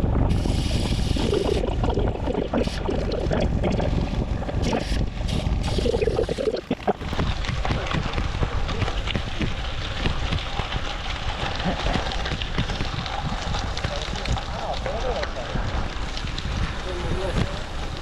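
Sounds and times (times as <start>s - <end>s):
motorcycle engine and road rumble: 0.0s - 1.6s, 2.7s - 6.1s, 6.9s - 18.0s
wind rush on microphone: 0.0s - 18.0s.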